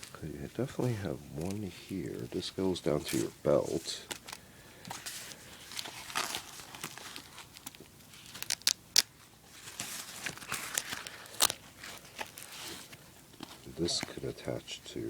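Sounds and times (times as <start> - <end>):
fabric straps rustling: 0.0 - 14.2.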